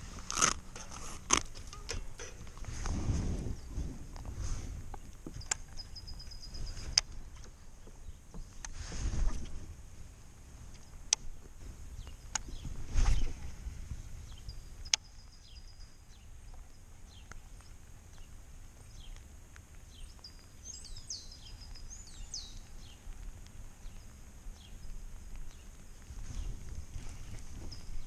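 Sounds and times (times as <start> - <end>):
low outdoor rumble: 0.0 - 28.0
small birds chirping: 3.4 - 9.6, 10.7 - 28.0.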